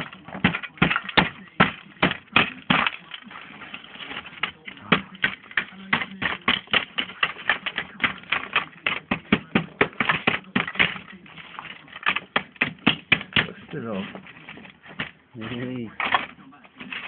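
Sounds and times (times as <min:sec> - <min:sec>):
plaster chunks clicking and clattering: 0:00.0 - 0:17.0.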